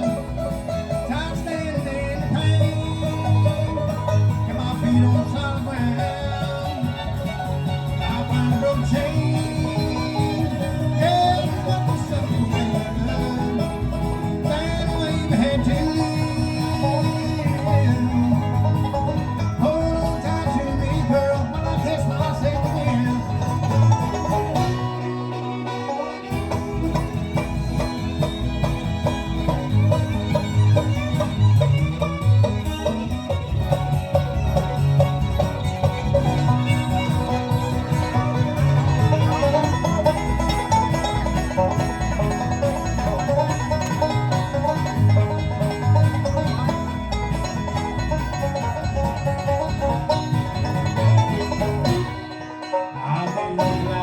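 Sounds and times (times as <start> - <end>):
banjo: 0.0 - 54.0
bluegrass band playing: 0.0 - 54.0.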